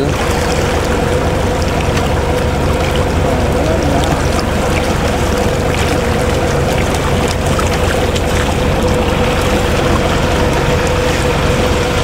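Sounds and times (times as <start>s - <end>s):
boat engine humming: 0.0s - 12.0s
water splashing along hull: 0.0s - 12.0s.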